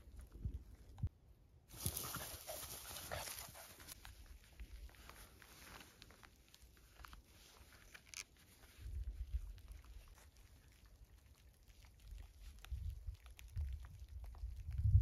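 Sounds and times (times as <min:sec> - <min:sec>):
rustling in dry grass: 0:01.7 - 0:15.0.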